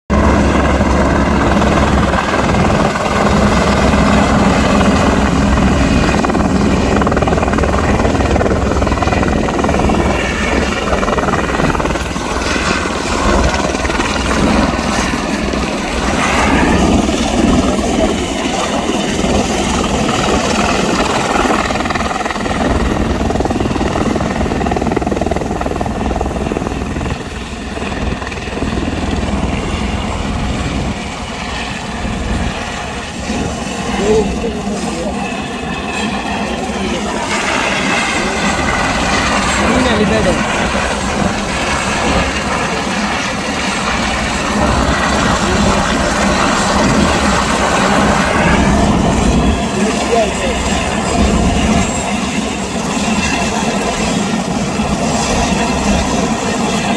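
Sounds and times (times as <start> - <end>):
helicopter rotor chopping: 0.1 - 56.9
turbine engine whine: 0.1 - 56.9.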